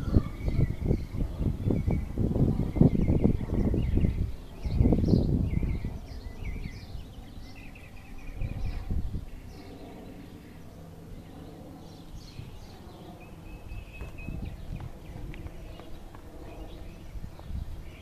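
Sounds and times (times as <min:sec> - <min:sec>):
low microphone rumble: 0:00.0 - 0:18.0
songbirds chirping: 0:00.0 - 0:18.0.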